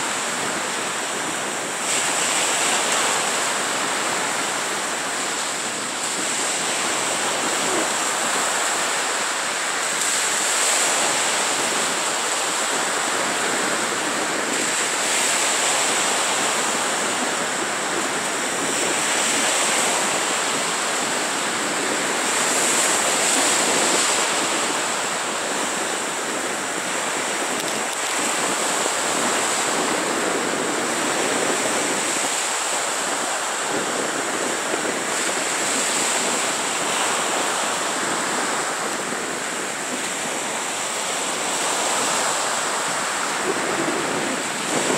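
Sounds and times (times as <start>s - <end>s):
surf breaking on a beach: 0.0s - 44.9s.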